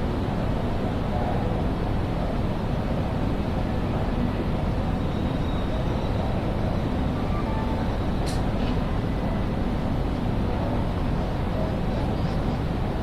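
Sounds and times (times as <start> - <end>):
railway station hall din: 0.0 - 13.0.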